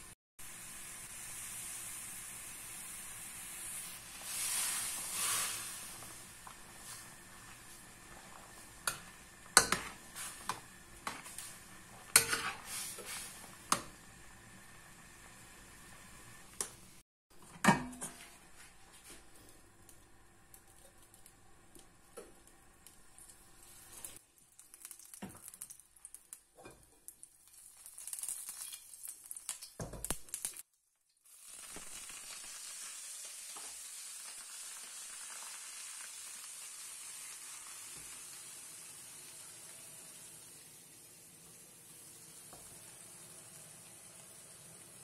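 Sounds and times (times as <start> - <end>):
chillies sizzling in oil: 0.0 - 45.0.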